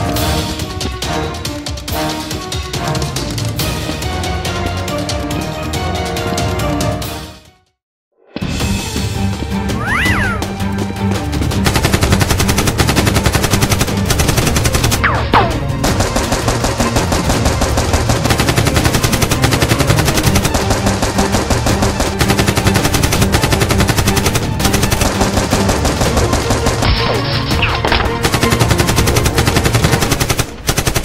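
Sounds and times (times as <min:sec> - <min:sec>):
background music: 0:00.0 - 0:31.0.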